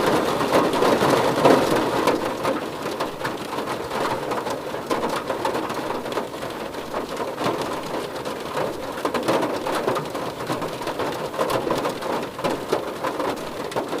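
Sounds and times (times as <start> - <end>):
rain drumming on a car roof: 0.0 - 14.0.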